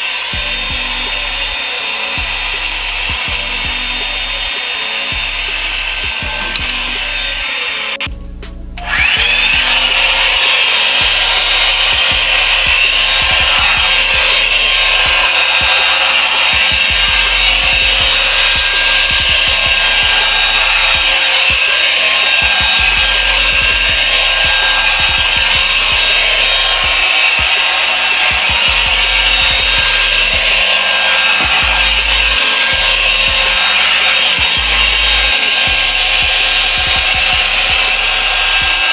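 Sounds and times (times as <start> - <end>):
hot-air brush dryer blowing: 0.0 - 8.1, 8.8 - 38.9
motor whine spinning up: 0.0 - 38.9.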